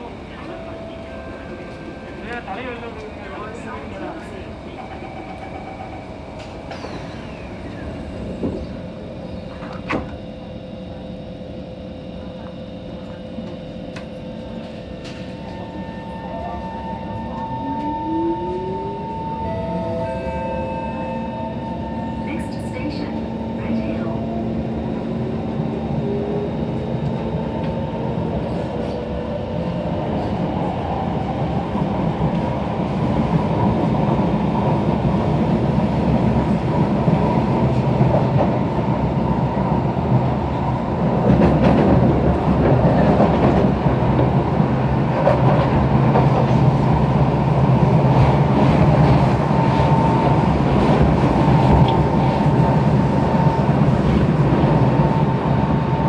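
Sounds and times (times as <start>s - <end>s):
train wheels on rail: 0.0s - 11.0s, 12.2s - 18.8s, 21.5s - 56.0s.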